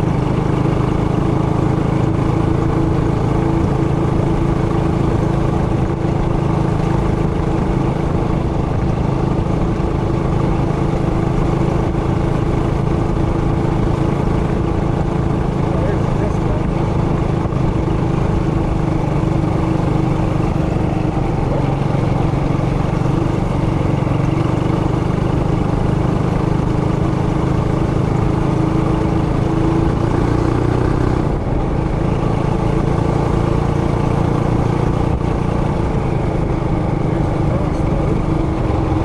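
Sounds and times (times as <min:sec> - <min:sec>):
mini bike engine running: 0:00.0 - 0:39.0.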